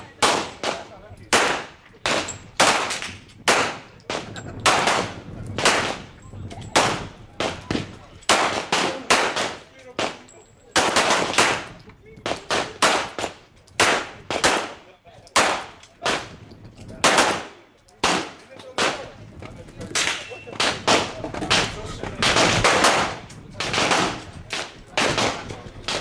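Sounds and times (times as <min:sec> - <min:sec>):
pistol shots: 0:00.0 - 0:06.1, 0:06.7 - 0:16.4, 0:17.0 - 0:19.1, 0:19.9 - 0:26.0.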